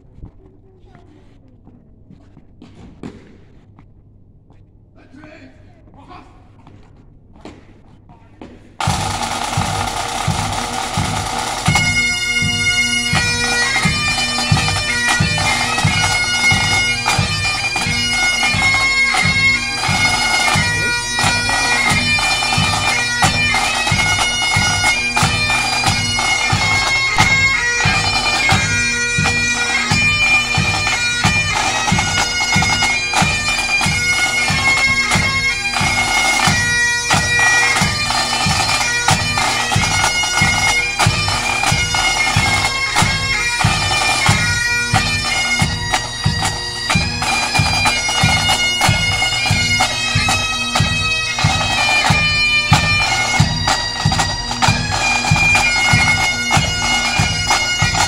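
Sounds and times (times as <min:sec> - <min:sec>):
bagpipes playing a tune: 0:08.8 - 0:58.0.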